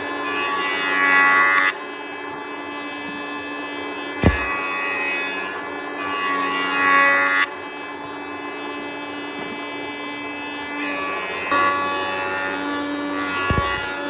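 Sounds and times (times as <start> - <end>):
power tool whining: 0.0 - 14.0.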